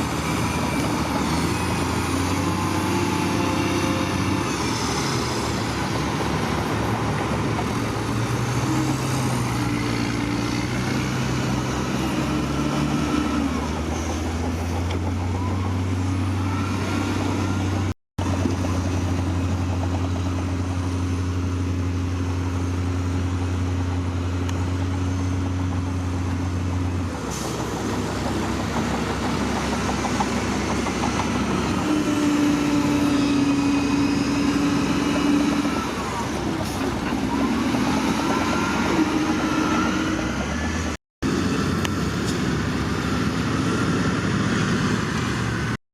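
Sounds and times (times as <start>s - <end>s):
heavy diesel engines running: 0.0s - 45.8s.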